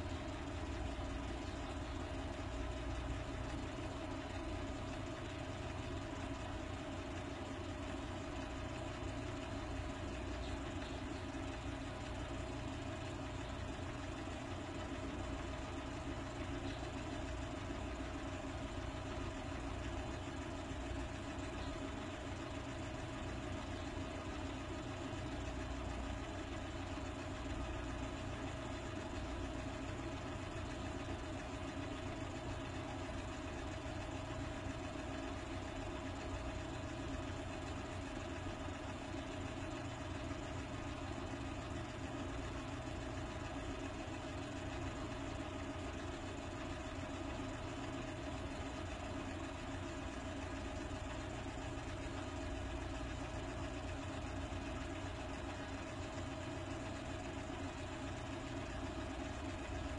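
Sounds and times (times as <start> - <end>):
motor humming steadily: 0.0 - 59.9.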